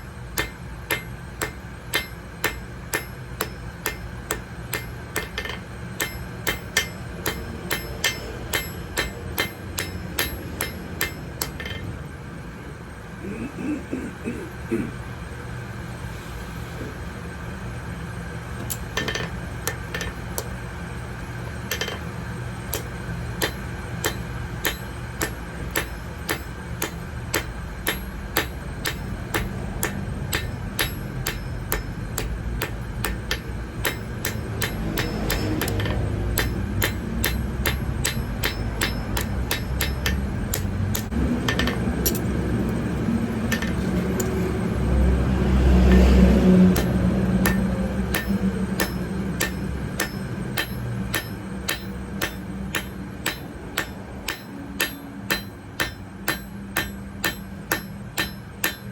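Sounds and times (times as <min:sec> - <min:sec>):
hammer on metal anvil: 0:00.0 - 0:12.0, 0:18.6 - 0:20.5, 0:21.7 - 0:22.1, 0:22.7 - 0:42.2, 0:43.5 - 0:44.4, 0:45.8 - 0:58.9.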